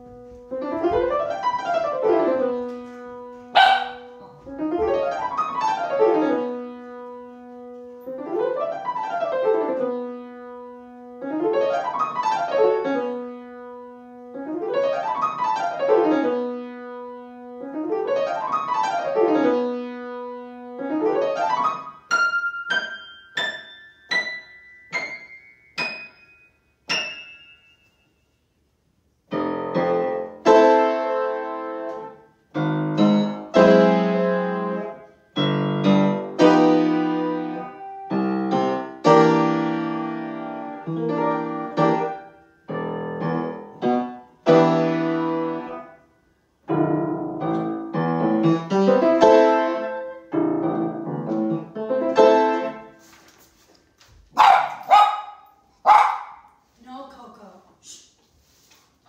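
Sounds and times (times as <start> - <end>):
grand piano playing: 0.0 - 27.6, 29.3 - 53.0.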